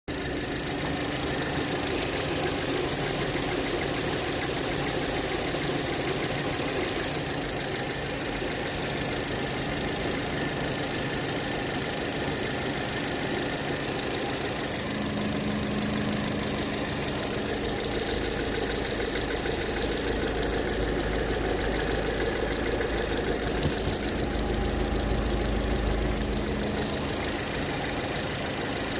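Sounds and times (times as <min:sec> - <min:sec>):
car engine knocking: 0:00.1 - 0:28.9.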